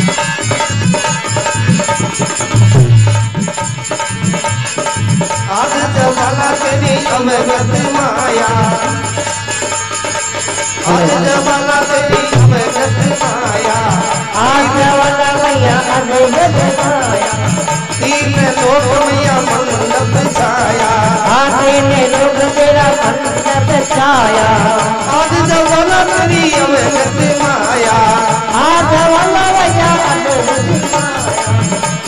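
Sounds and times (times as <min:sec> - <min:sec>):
dholak drum beat: 0:00.0 - 0:32.0
harmonium melody: 0:00.0 - 0:32.0.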